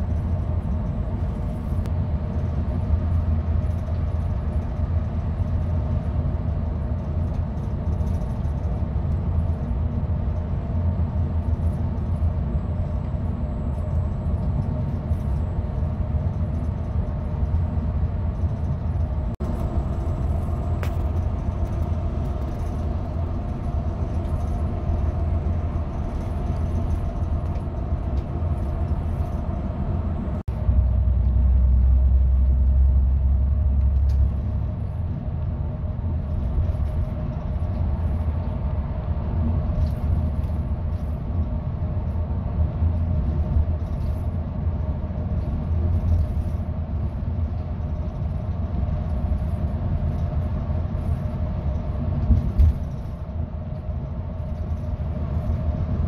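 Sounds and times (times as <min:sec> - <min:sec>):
bus engine rumble: 0:00.0 - 0:56.0
tyres on highway: 0:00.0 - 0:56.0.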